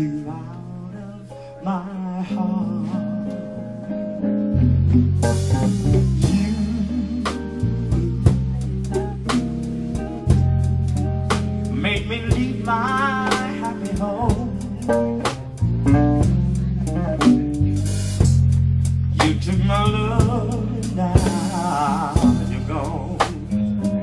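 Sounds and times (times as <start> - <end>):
bass notes: 0.0 - 24.0
electric guitar with vibrato: 0.0 - 24.0
drums: 3.0 - 24.0.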